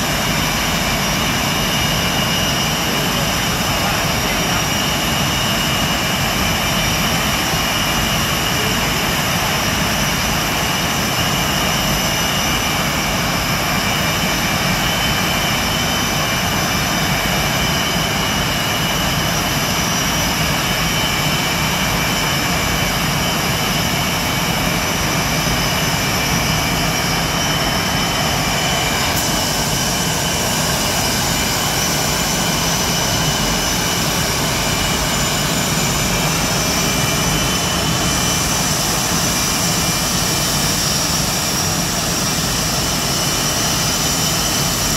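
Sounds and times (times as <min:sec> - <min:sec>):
jet engines roaring with whine: 0:00.0 - 0:44.9.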